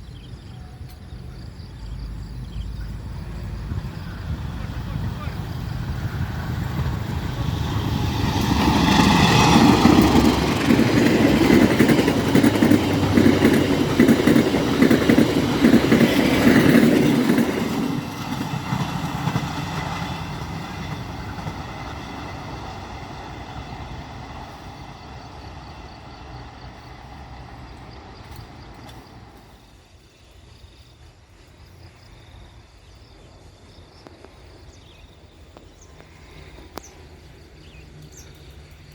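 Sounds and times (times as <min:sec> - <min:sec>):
diesel train passing: 0:00.0 - 0:38.9.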